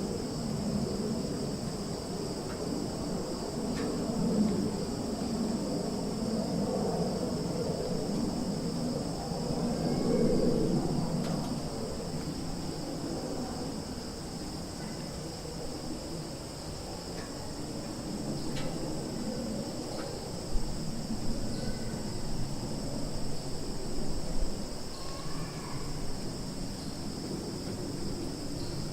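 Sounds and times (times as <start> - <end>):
crickets and insects chirring: 0.0 - 28.9.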